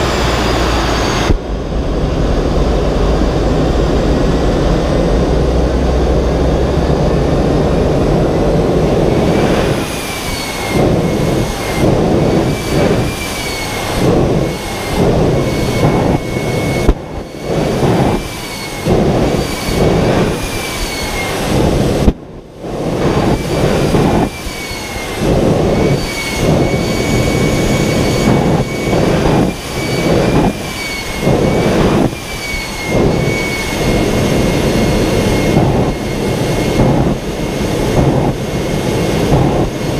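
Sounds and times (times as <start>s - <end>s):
high wavering turbine whine: 0.0s - 39.9s
jet turbine engine roaring: 0.0s - 39.9s.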